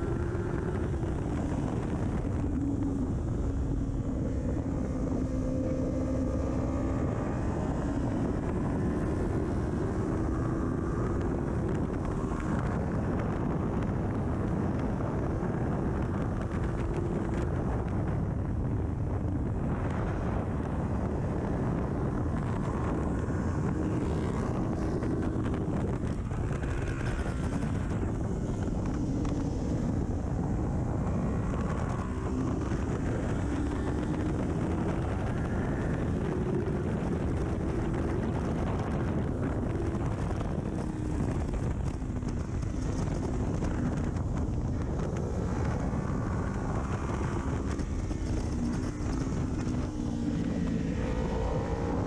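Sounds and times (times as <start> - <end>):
wind noise on microphone: 0.0 - 52.0.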